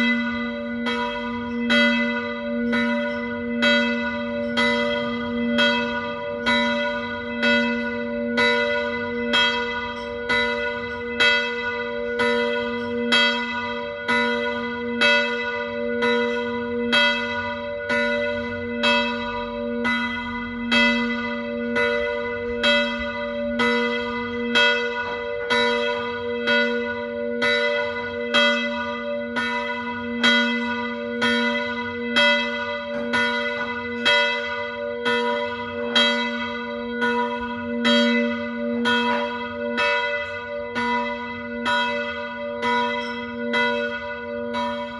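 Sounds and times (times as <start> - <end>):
church bells ringing a peal: 0.0 - 44.9.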